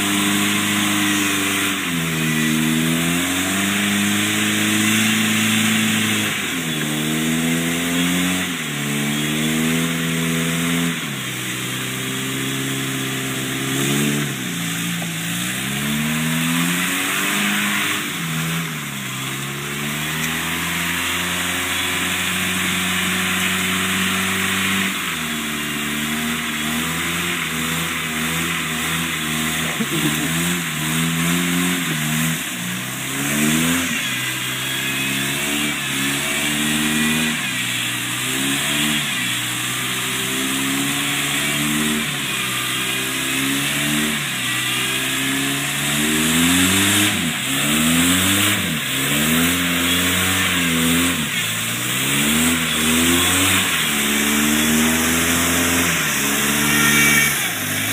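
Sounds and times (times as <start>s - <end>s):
engine revving hard: 0.0s - 57.9s
tyres spinning through mud: 0.0s - 57.9s.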